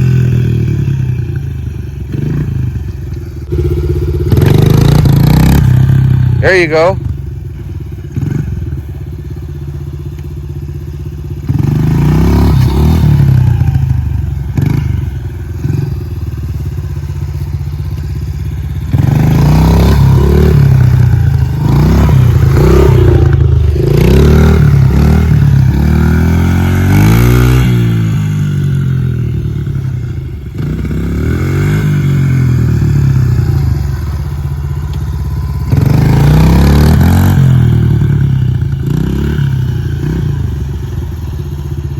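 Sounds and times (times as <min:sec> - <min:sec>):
motorbike engine revving: 0:00.0 - 0:09.9, 0:10.5 - 0:41.9.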